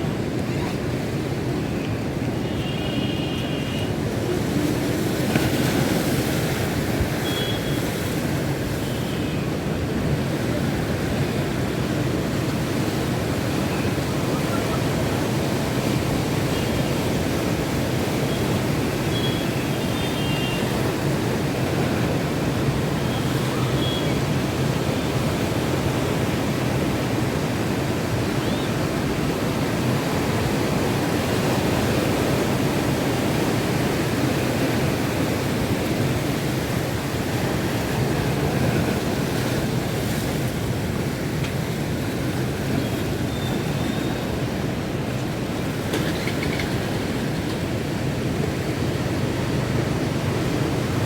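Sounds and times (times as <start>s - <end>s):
sea surf: 0.0s - 51.0s
wind: 0.0s - 51.0s.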